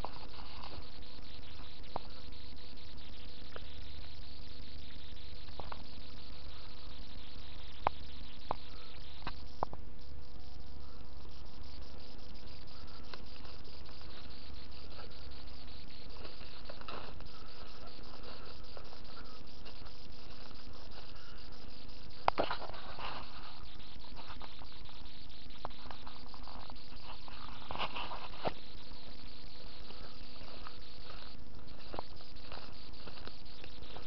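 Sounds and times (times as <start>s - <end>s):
leaves and twigs crunching underfoot: 0.0s - 2.2s, 4.9s - 9.9s, 11.3s - 34.0s
low steady hum: 0.0s - 34.0s.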